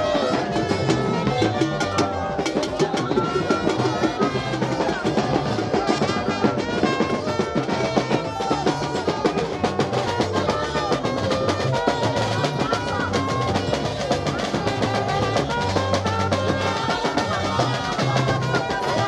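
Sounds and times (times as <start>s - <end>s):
snare and bass drums: 0.0s - 19.0s
trumpet melody: 0.0s - 19.0s.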